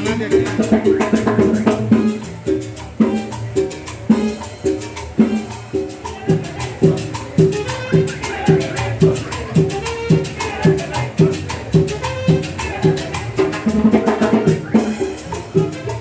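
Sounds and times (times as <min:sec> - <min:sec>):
latin dance music: 0:00.0 - 0:16.0
shaker rattle: 0:00.0 - 0:16.0.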